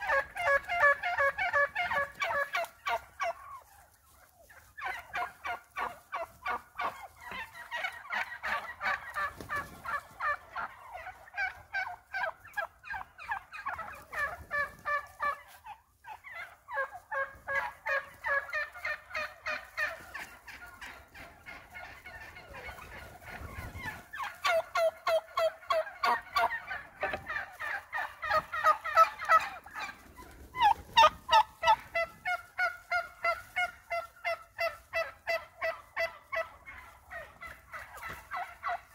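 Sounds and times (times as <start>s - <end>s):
wild turkeys calling: 0.0s - 38.9s.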